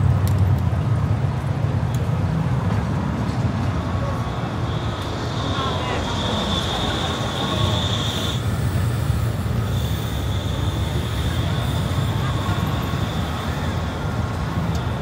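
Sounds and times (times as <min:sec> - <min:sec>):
low rumble of city traffic: 0:00.0 - 0:15.0
tram wheels squealing on rails: 0:02.8 - 0:15.0.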